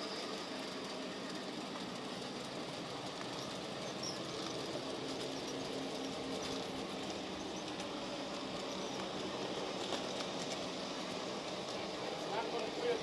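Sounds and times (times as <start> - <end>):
wheels ticking over track: 0.0 - 13.0.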